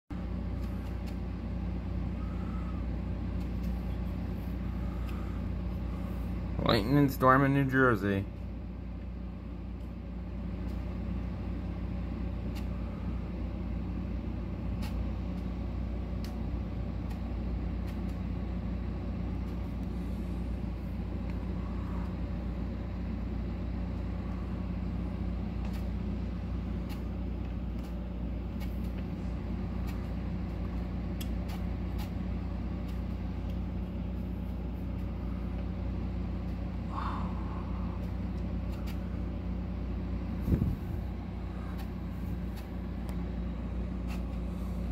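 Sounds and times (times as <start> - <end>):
low mechanical hum: 0.1 - 44.9.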